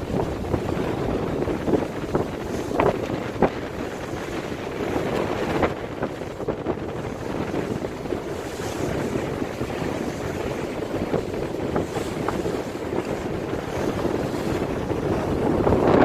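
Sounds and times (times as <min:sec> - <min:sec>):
boat rushing through water: 0:00.0 - 0:16.0
wind buffeting microphone: 0:00.0 - 0:16.0.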